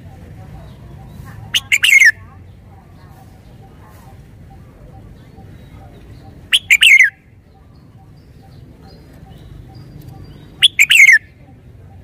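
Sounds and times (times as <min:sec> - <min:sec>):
bird singing: 0:00.0 - 0:12.0.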